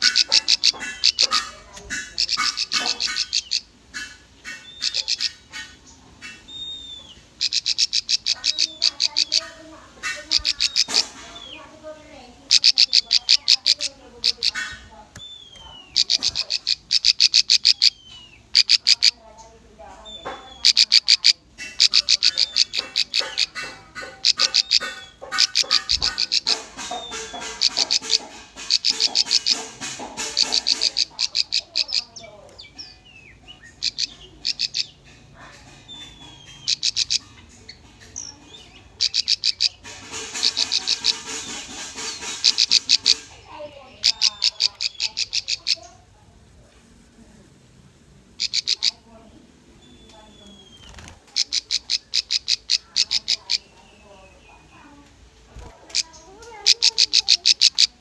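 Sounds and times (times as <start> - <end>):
bird song: 0.0 - 46.1, 48.4 - 58.0.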